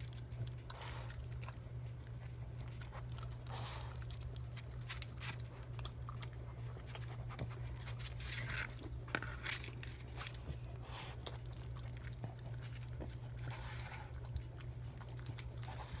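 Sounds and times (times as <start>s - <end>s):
dog licking and chewing: 0.0s - 16.0s
steady low hum: 0.0s - 16.0s.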